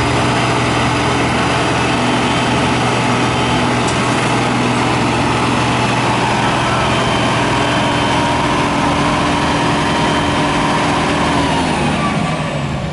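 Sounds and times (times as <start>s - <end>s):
diesel engine humming: 0.0s - 12.9s.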